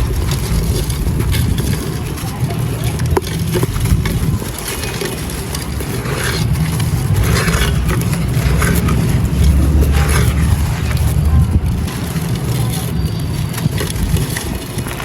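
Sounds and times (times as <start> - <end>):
low rumble: 0.0 - 14.6
dry clay crunching: 0.0 - 15.0.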